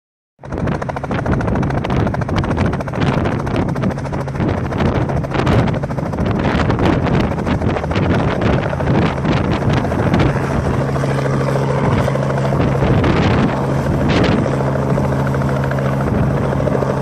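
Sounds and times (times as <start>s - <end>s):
helicopter rotor chopping: 0.4s - 17.0s
helicopter turbine whine: 0.4s - 17.0s
wind buffeting microphone: 0.4s - 17.0s.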